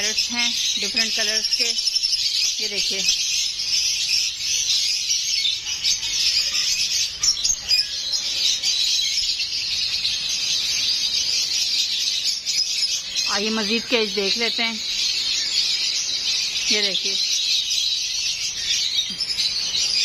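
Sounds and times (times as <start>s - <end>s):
parrots chirping and chattering: 0.0s - 20.0s.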